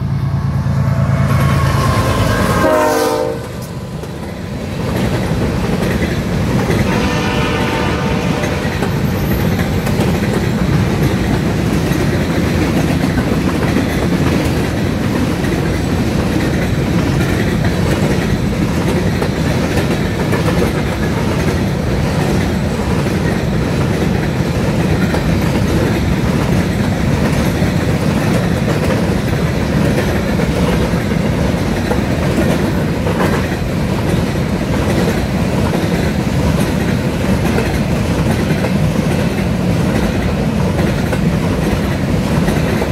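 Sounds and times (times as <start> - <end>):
steel wheels on rails rumbling: 0.0 - 42.9
train cars rolling past: 0.0 - 42.9.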